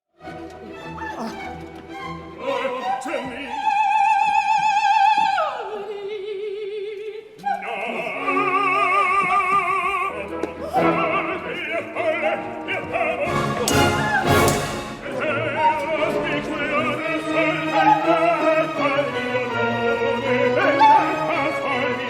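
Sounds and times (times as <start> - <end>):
operatic soprano singing: 2.2 - 22.0.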